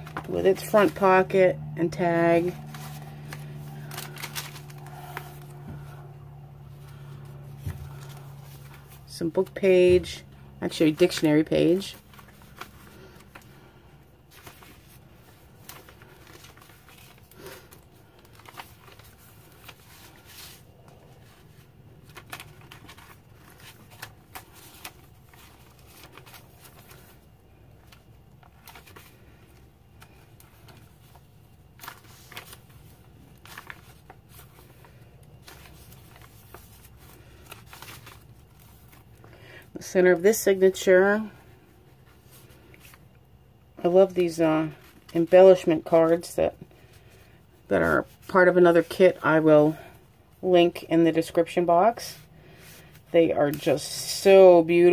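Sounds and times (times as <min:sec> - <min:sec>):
paper pages rustling: 0:00.0 - 0:43.4, 0:44.1 - 0:49.1
low room hum: 0:00.0 - 0:54.9.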